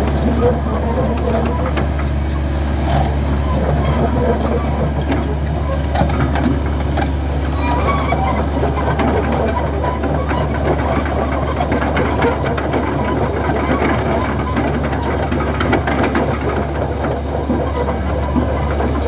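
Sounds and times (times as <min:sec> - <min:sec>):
diesel engine humming: 0:00.0 - 0:19.0
machine knocks and clatter: 0:00.0 - 0:19.0.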